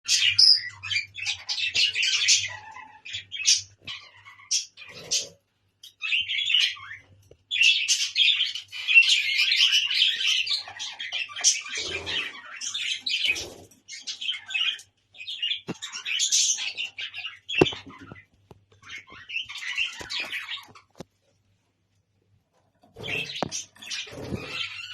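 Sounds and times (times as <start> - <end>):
budgerigars chattering and warbling: 0.1 - 21.0, 23.0 - 24.9.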